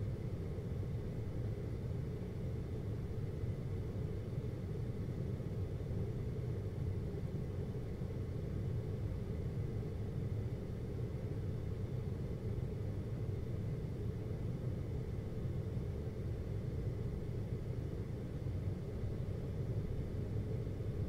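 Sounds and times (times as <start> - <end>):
air conditioner hum and fan: 0.0 - 21.0.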